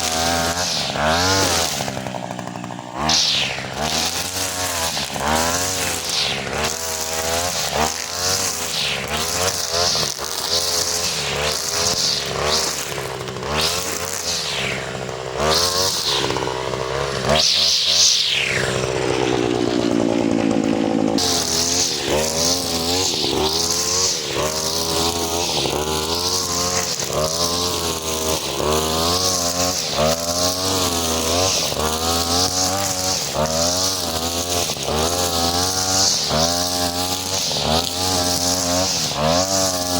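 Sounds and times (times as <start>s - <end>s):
brush cutter engine revving: 0.0s - 39.9s.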